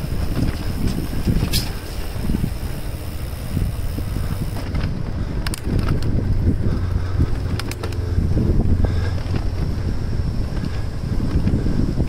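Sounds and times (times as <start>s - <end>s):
bicycle rolling on concrete: 0.0s - 12.0s
wind rumbling on microphone: 0.0s - 12.0s.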